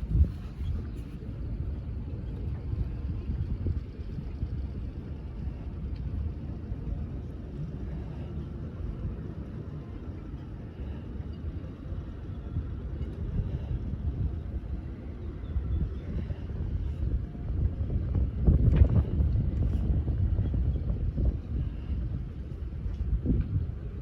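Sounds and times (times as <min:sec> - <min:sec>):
low rumble aboard boat: 0:00.0 - 0:24.0
wind buffeting microphone: 0:00.0 - 0:24.0.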